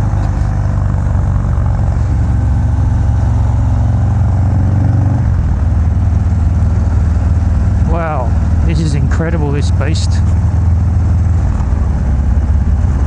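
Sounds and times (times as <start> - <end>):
loud motorcycle engine: 0.0 - 13.0.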